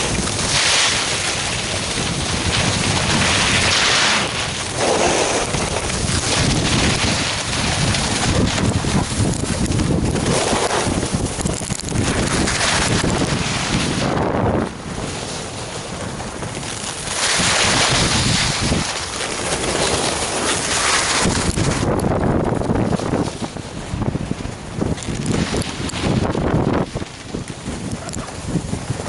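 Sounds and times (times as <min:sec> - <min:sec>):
skis scraping over snow: 0:00.0 - 0:29.0
wind rushing over microphone: 0:00.0 - 0:29.0.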